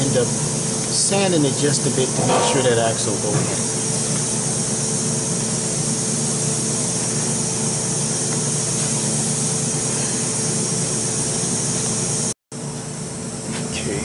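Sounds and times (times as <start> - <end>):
hiss: 0.0 - 12.4
machine hum: 0.0 - 14.0.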